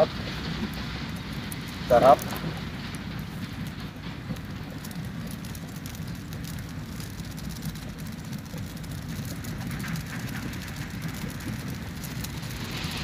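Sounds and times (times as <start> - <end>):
gas stove burning: 0.0 - 13.0
stew bubbling and crackling: 0.0 - 13.0.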